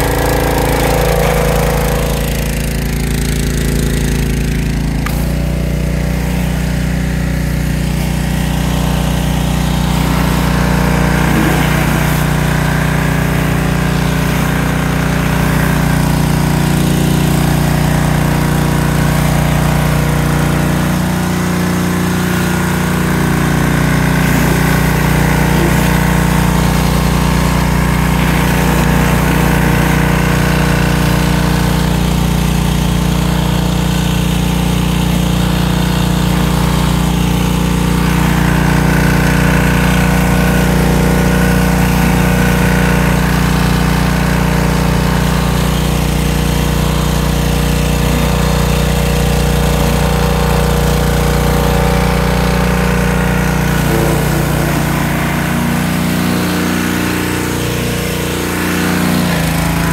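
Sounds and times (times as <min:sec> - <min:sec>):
pressure washer engine running: 0:00.0 - 0:59.9
water jets spraying on concrete: 0:00.0 - 0:59.9.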